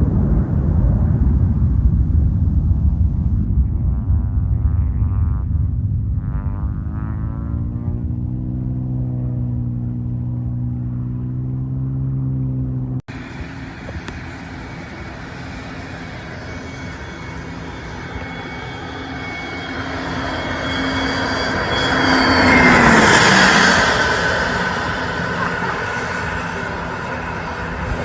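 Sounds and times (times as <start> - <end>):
jet engines passing: 0.0 - 28.0
low droning engine hum: 0.0 - 28.0.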